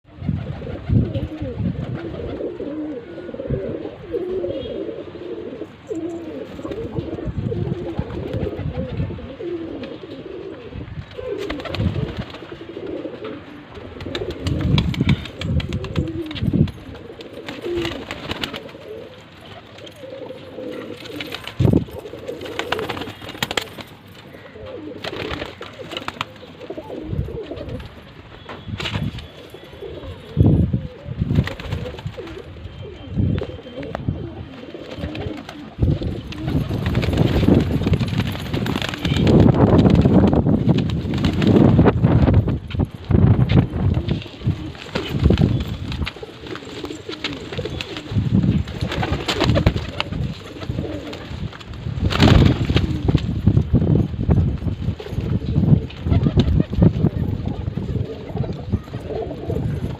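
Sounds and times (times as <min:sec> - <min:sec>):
pigeons cooing: 0:00.1 - 0:28.0, 0:29.2 - 0:40.4, 0:43.6 - 0:51.5, 0:54.9 - 0:59.9.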